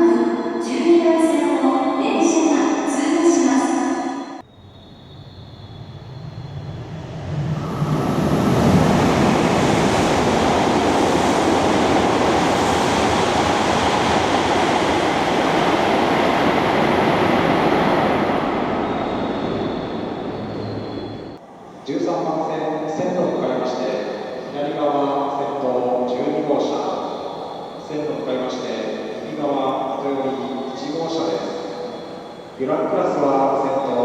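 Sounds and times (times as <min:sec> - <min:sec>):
train rushing past: 0:02.1 - 0:34.0.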